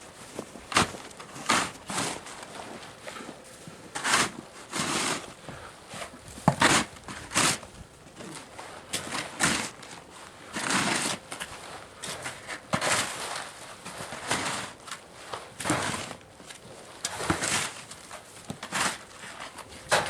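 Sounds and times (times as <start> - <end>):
shovel scraping snow: 0.4 - 7.7, 8.9 - 16.2, 16.8 - 20.0.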